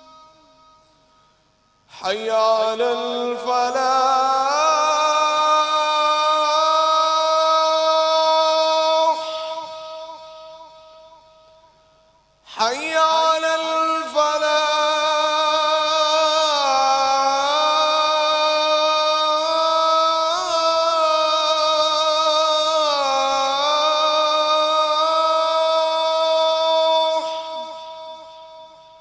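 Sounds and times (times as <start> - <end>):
man singing call to prayer: 0.0 - 0.9, 1.9 - 11.6, 12.5 - 29.0.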